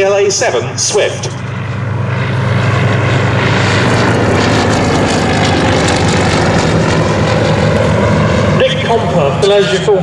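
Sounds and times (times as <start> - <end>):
radial aircraft engine and propeller: 0.0 - 10.0.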